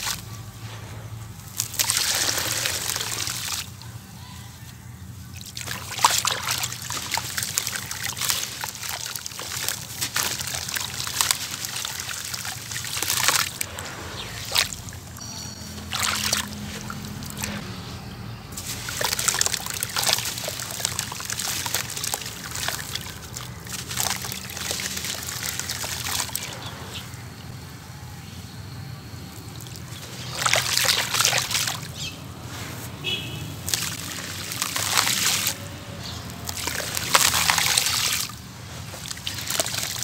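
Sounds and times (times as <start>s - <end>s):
hands squelching wet slurry: 0.0s - 3.9s, 5.2s - 15.2s, 15.8s - 17.6s, 18.6s - 27.1s, 29.4s - 40.0s.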